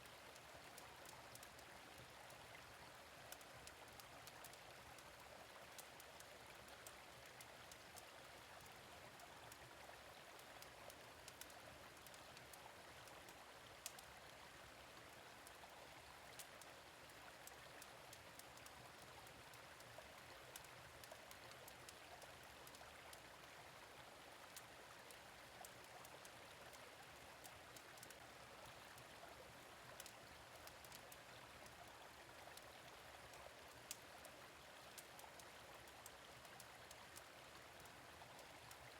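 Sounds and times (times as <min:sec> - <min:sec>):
gentle stream flowing: 0:00.0 - 0:38.9.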